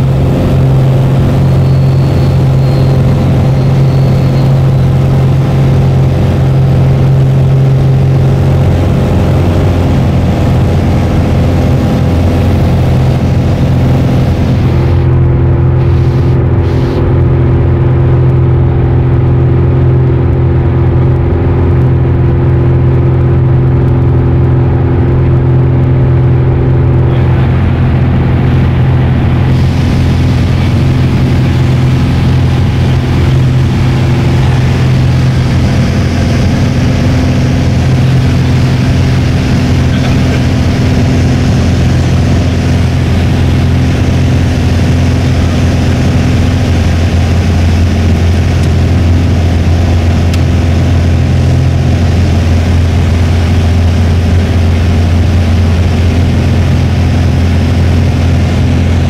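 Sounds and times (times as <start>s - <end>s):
aircraft engine drone in cabin: 0.0s - 59.0s.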